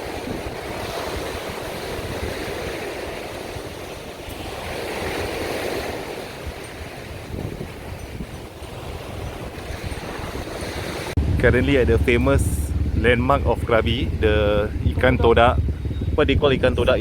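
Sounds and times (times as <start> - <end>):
sea surf breaking on beach: 0.0 - 17.0
wind rumbling on microphone: 0.0 - 17.0.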